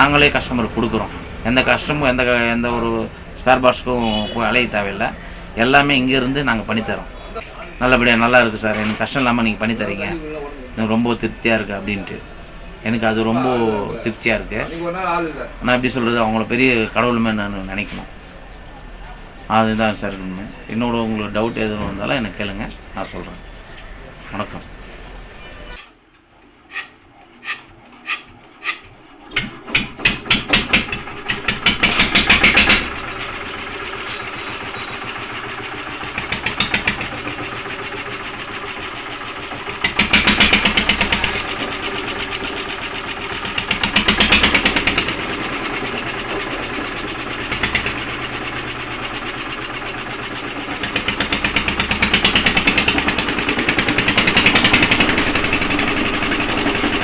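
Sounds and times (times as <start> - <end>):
diesel engine starting and running: 0.0 - 57.0.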